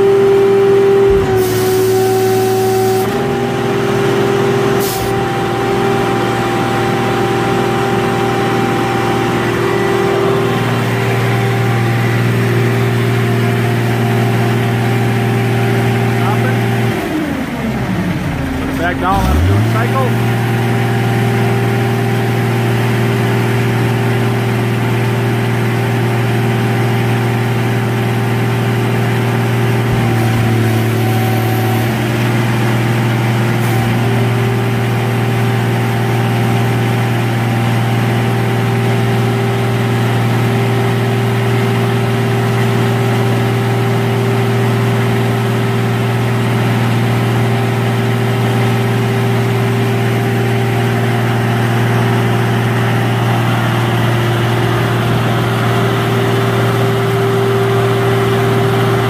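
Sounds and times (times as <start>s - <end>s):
diesel power unit running: 0.0s - 59.0s.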